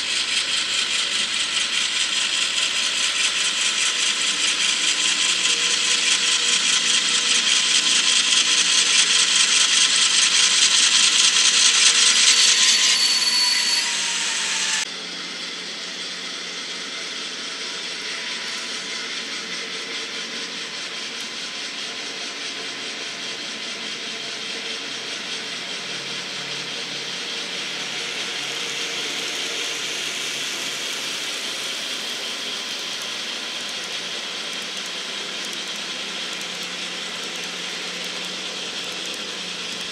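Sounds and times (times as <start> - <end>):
model trains rattling on rails: 0.0 - 39.9.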